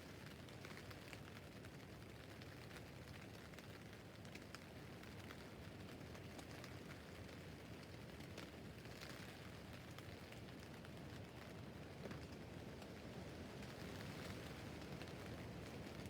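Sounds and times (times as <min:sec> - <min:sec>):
rain on a tent roof: 0:00.0 - 0:16.0.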